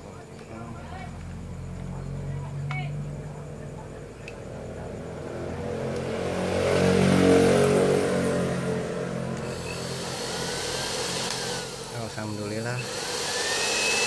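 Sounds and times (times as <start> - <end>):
vehicle engine passing: 0.5 - 12.8.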